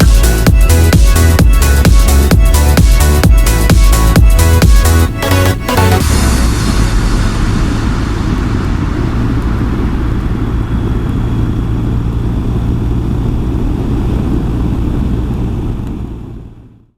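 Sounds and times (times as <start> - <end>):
rushing wind noise: 0.0 - 16.6
vehicle engine running: 0.0 - 16.9.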